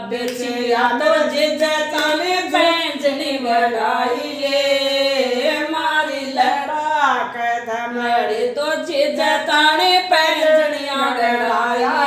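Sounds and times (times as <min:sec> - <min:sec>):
women singing folk song unaccompanied: 0:00.0 - 0:12.0.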